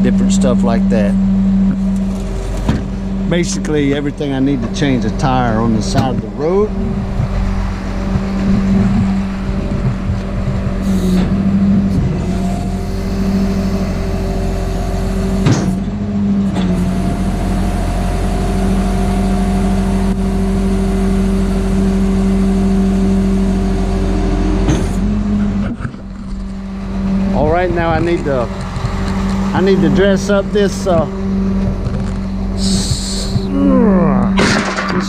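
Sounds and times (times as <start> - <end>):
truck engine idling: 0.0 - 34.4.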